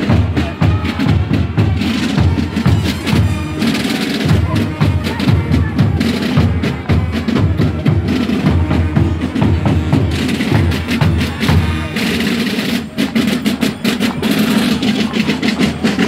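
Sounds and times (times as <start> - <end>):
marching drums and snares: 0.0 - 16.0.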